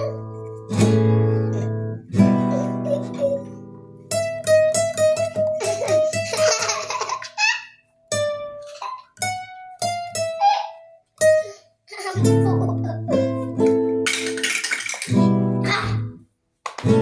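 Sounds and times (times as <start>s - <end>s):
acoustic guitar playing: 0.0s - 7.4s, 8.0s - 16.2s, 16.8s - 17.0s.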